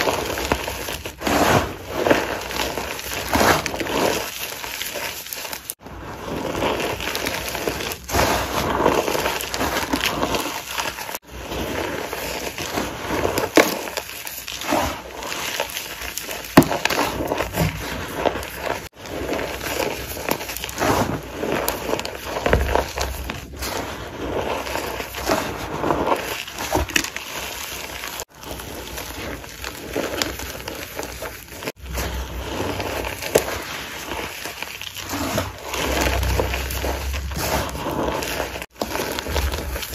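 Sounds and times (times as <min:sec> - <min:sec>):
chalk being crushed: 0:00.0 - 0:39.9.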